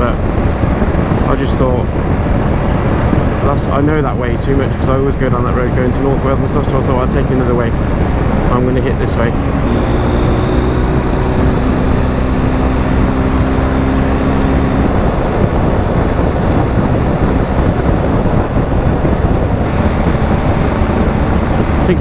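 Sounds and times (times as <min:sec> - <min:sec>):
motorcycle engine hum: 0:00.0 - 0:22.0
wind rushing over microphone: 0:00.0 - 0:22.0.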